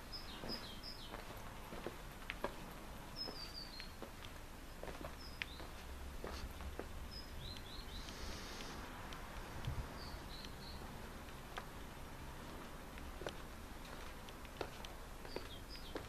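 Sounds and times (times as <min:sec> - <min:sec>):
faint steady background hum: 0:00.0 - 0:16.0
small birds chirping: 0:00.0 - 0:16.0.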